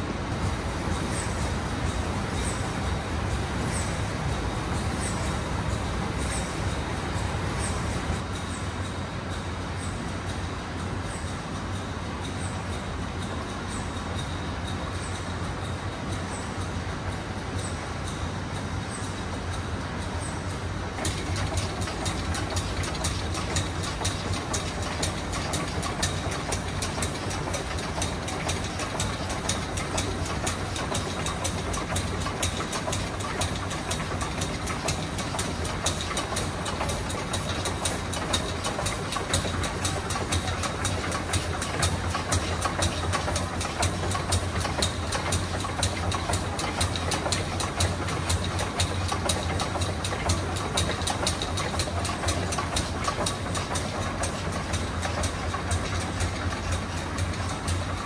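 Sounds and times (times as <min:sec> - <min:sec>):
constant low hum: 0:00.0 - 0:58.0
steam engines clicking and knocking: 0:00.0 - 0:58.0.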